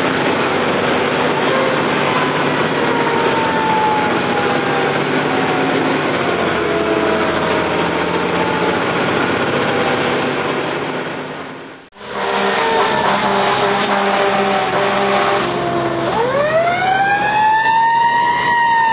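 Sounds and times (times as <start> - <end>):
fire engine running: 0.0 - 18.9
siren tones falling in pitch: 1.1 - 10.4, 12.0 - 18.9.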